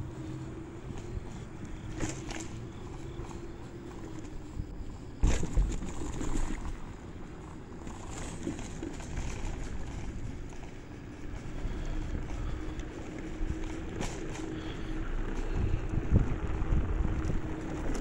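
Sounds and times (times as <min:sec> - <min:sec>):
faint steady hum: 0:00.0 - 0:18.0
scooter wheels rumbling on boardwalk: 0:00.0 - 0:18.0
wind on microphone: 0:00.0 - 0:18.0
scooter bumps: 0:00.8 - 0:04.4, 0:05.2 - 0:06.8, 0:07.5 - 0:18.0.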